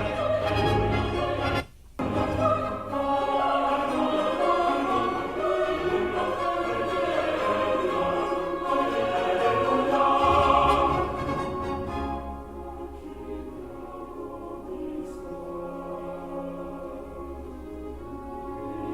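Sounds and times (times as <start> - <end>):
orchestral music with choir: 0.0 - 18.9.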